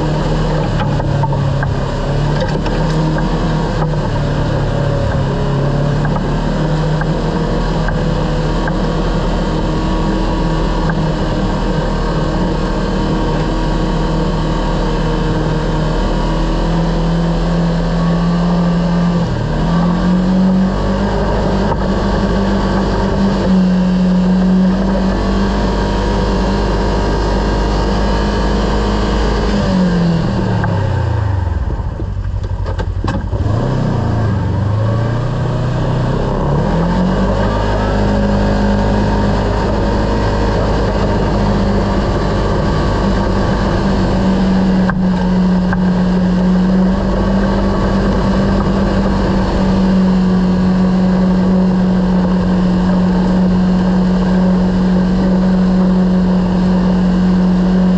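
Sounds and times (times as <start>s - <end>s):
engine running: 0.0s - 57.9s.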